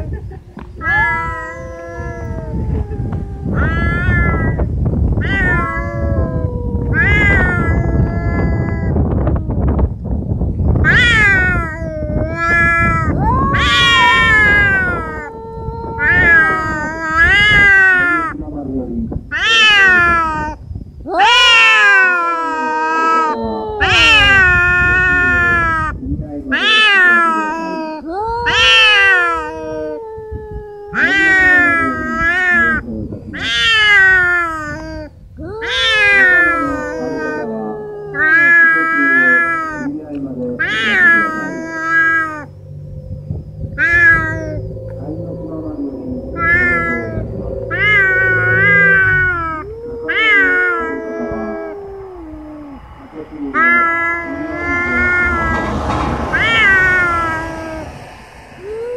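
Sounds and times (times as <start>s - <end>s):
cats yowling: 0.7s - 10.0s, 10.6s - 18.4s, 19.3s - 55.6s.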